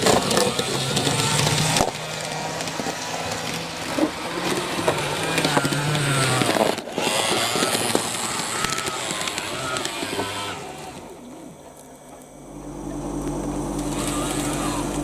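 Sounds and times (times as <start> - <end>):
wheels clicking on rails: 0.0 - 12.3
model train motor humming: 0.0 - 15.0.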